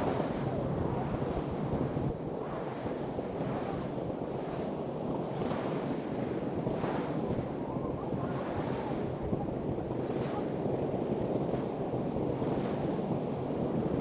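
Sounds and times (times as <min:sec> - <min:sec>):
ocean surf washing onto shore: 0:00.0 - 0:14.0
wind rushing over microphone: 0:00.0 - 0:14.0.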